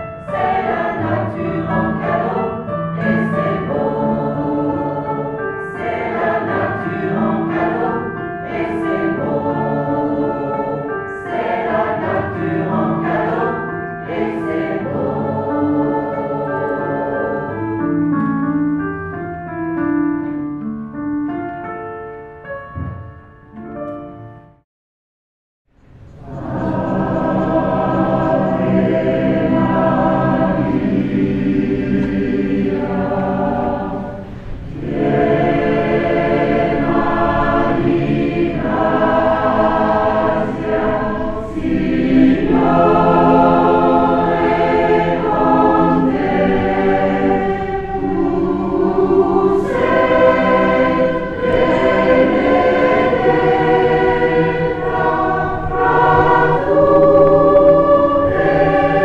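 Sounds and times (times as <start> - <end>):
mixed choir singing in parts: 0.0 - 18.8, 26.0 - 59.0.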